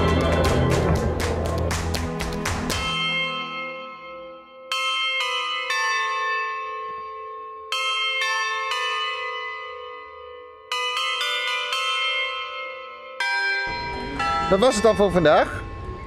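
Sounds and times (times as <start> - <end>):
bells ringing: 0.0 - 16.0.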